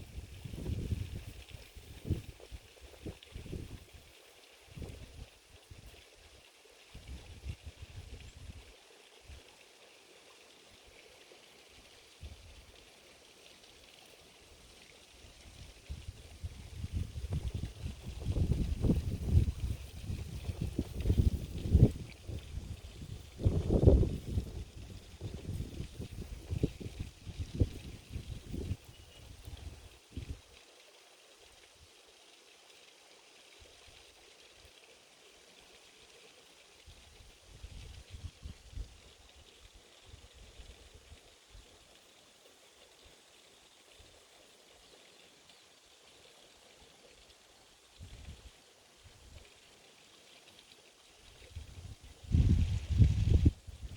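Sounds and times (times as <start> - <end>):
faint outdoor hiss: 0.0 - 53.9.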